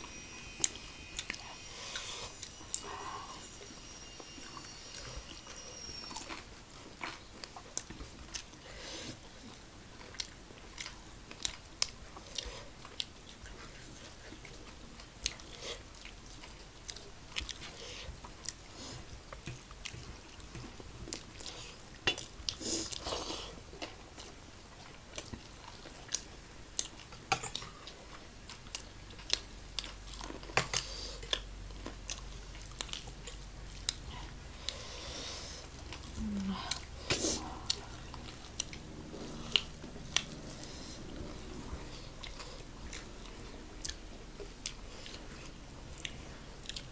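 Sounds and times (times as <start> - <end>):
chewing crisp fried food: 6.2 - 46.9.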